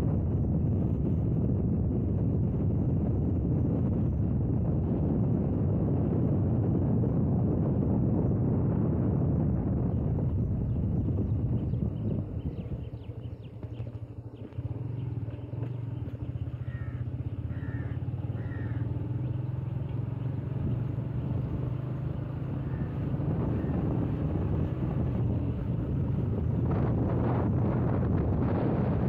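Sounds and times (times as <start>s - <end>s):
motorcycle engine running: 0.0s - 29.0s
wind noise on microphone: 0.0s - 29.0s.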